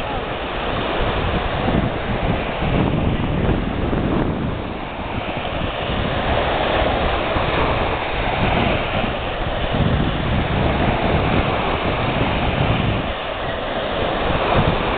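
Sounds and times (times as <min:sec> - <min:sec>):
waves washing on sandy shore: 0:00.0 - 0:14.9
wind buffeting microphone: 0:00.0 - 0:14.9.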